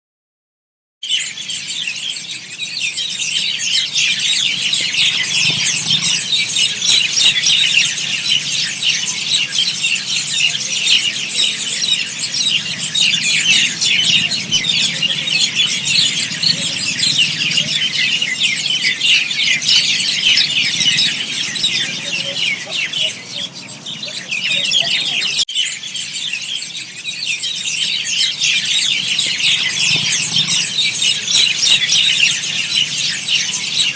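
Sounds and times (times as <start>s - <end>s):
flock of birds chirping: 1.0s - 33.9s.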